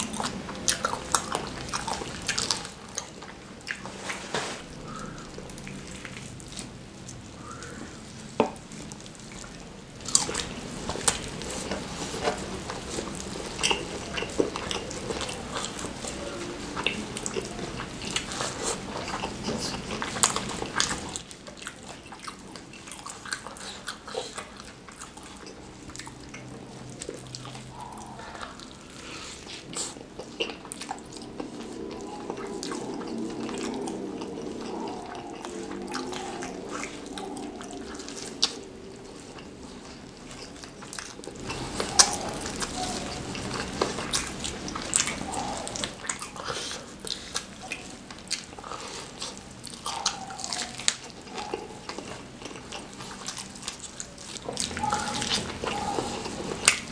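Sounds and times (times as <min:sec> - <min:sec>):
wet chewing and lip-smacking: 0:00.0 - 0:56.9.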